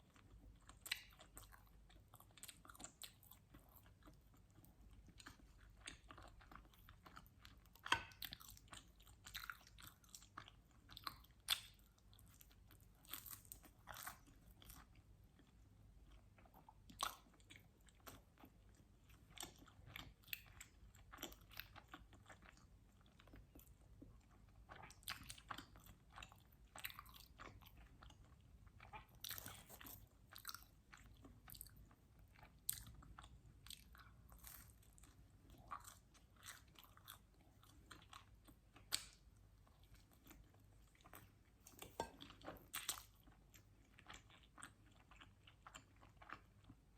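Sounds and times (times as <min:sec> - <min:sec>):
chewing and biting pizza: 0:00.0 - 0:46.9.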